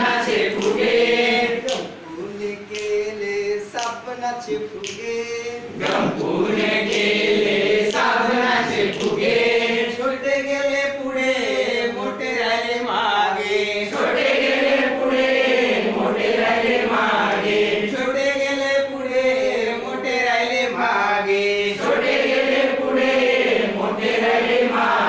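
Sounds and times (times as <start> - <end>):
group singing in unison: 0.0 - 3.0, 5.6 - 25.0.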